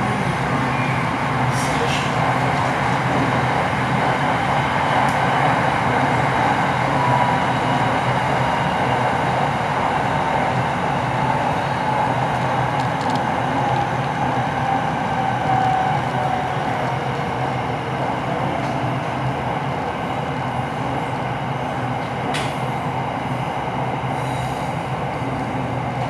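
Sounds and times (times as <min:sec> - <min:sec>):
electric train running on track: 0:00.0 - 0:26.0.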